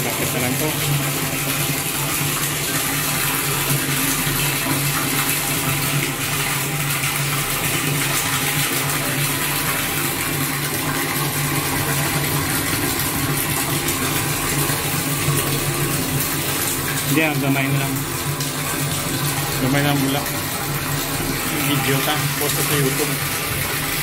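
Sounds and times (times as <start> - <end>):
water pouring into metal tank: 0.0 - 24.0.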